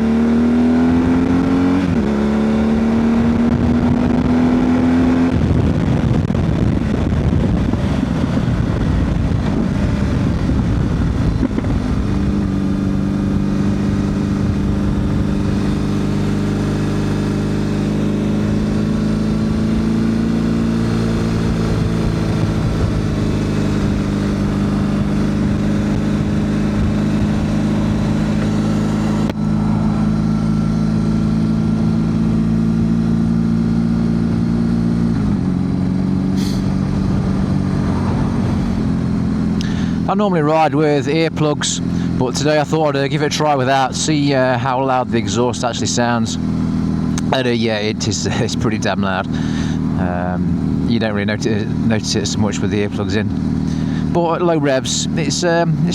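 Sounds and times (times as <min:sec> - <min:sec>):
motorcycle engine running loud: 0:00.0 - 0:55.9.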